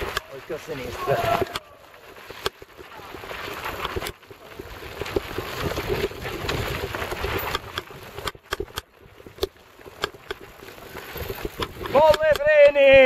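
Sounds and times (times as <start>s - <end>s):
bike rattling and clicking: 0.0s - 13.0s
bike tyres rolling on dirt: 0.0s - 13.0s.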